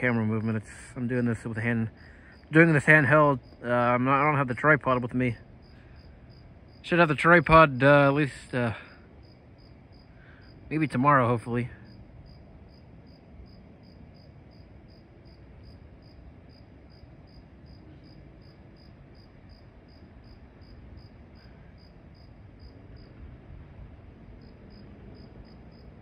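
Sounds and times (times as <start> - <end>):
crickets chirping: 0.0 - 26.0
faint low rumble: 0.0 - 26.0.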